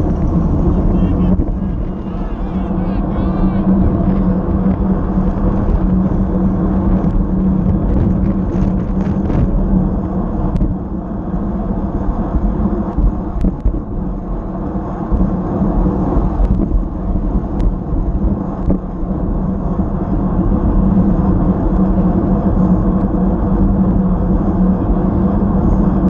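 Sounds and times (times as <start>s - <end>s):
bicycle rolling rumble: 0.0s - 26.0s
wind buffeting microphone: 0.0s - 26.0s.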